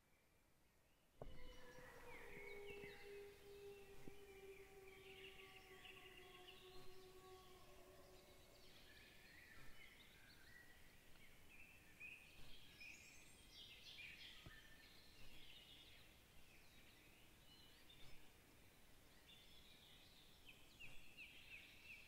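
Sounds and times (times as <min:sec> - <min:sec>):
birds chirping and trilling: 0:01.2 - 0:22.0.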